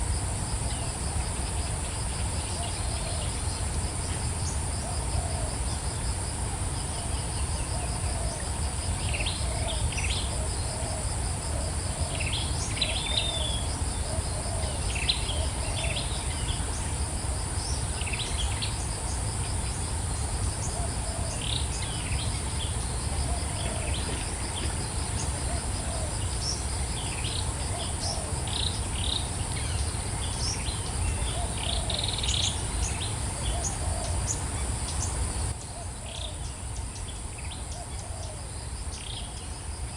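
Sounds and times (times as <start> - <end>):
pulsing insect trill: 0.0 - 39.9.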